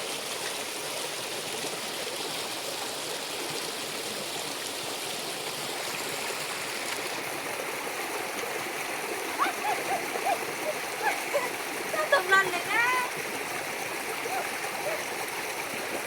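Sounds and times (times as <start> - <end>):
stream water rushing over rocks: 0.0 - 16.0.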